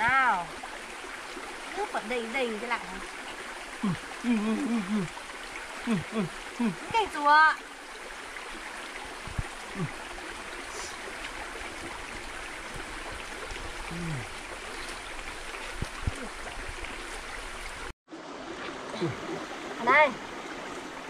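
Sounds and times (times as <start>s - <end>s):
forest stream rushing: 0.0s - 21.0s.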